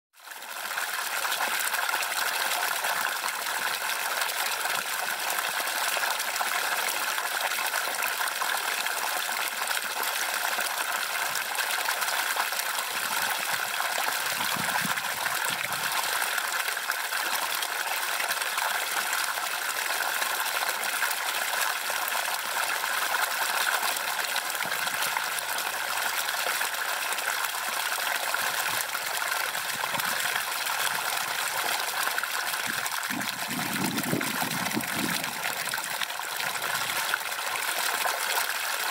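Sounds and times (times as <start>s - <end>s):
water gushing and splashing: 0.3s - 38.9s.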